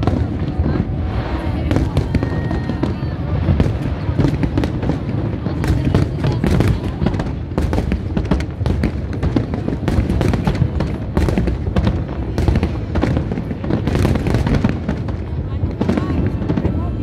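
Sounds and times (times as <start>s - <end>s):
low rumble: 0.0s - 13.8s
fireworks bangs and crackles: 0.0s - 17.0s.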